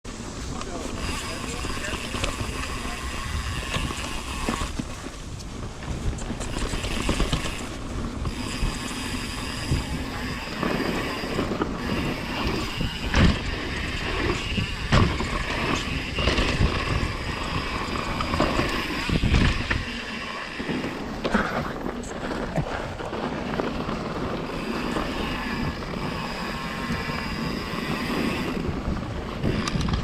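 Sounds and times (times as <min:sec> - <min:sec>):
tyres on dirt: 0:00.0 - 0:30.0
bike rattling: 0:00.1 - 0:30.0
wind on microphone: 0:00.1 - 0:30.0.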